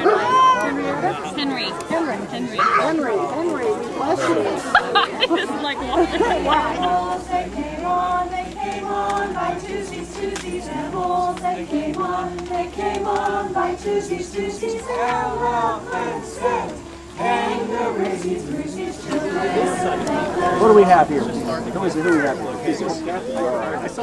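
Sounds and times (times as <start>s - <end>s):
group singing in unison: 3.6s - 24.0s.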